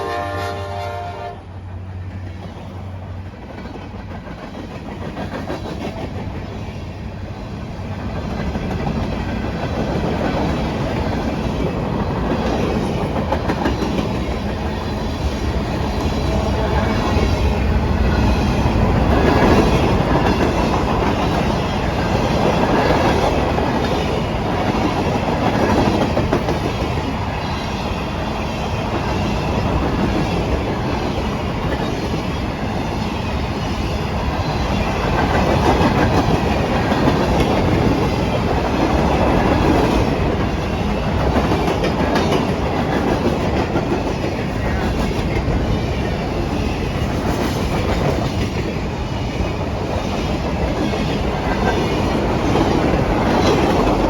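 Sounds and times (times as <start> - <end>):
train wheels rumbling on rails: 0.0 - 54.0
clickety-clack of rail joints: 0.8 - 54.0.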